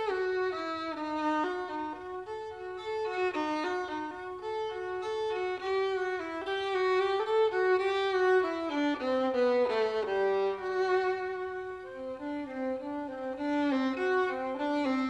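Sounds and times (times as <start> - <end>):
solo violin melody: 0.0 - 15.0.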